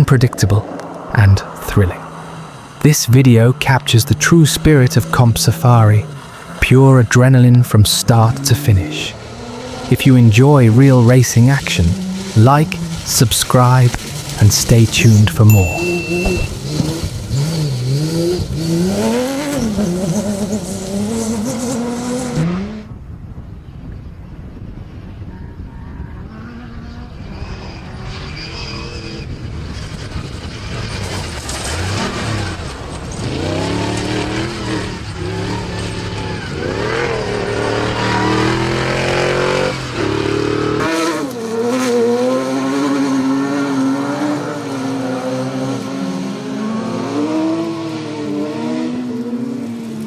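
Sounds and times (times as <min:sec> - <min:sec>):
off-road race engines revving: 0:00.0 - 0:22.9, 0:26.1 - 0:50.0.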